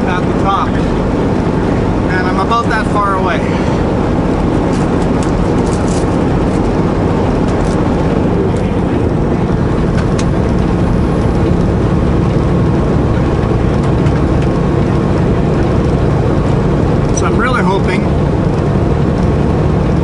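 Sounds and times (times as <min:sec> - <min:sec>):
diesel truck engine under load: 0:00.0 - 0:20.0
tyres on snow chains road noise: 0:00.0 - 0:20.0.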